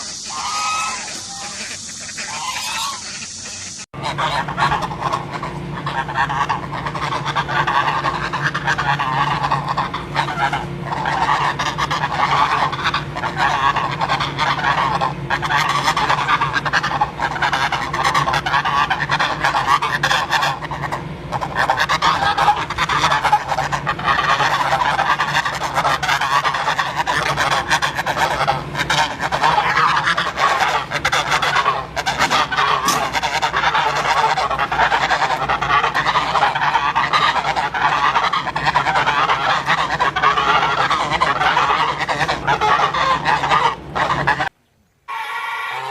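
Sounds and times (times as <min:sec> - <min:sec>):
geese honking: 0:00.0 - 0:45.9.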